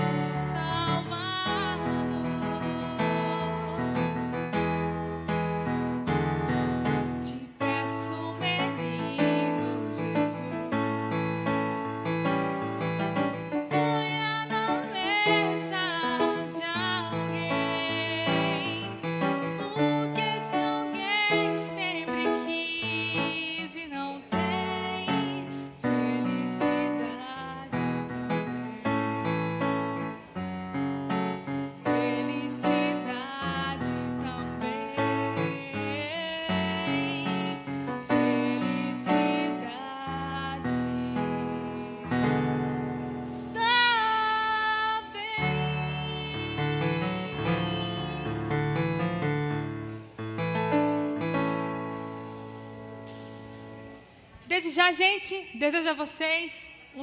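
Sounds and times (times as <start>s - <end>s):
keyboard accompaniment: 0.0s - 54.4s.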